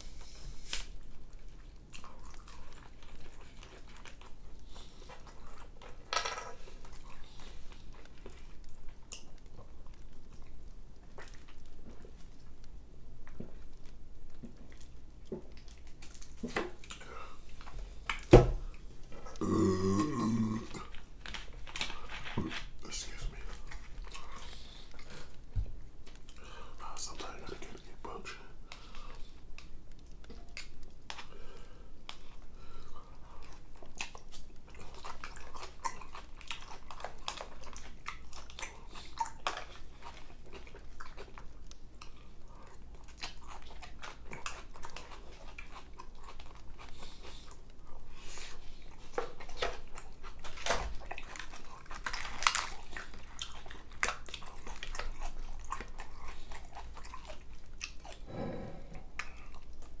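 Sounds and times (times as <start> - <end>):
person chewing and crunching food: 0.0 - 60.0.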